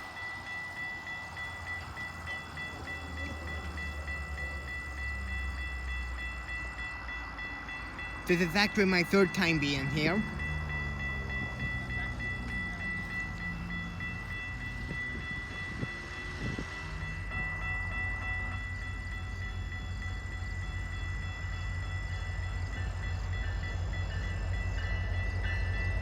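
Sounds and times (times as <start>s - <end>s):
diesel locomotive rumble: 0.0s - 26.0s
level crossing bell ringing: 0.0s - 26.0s.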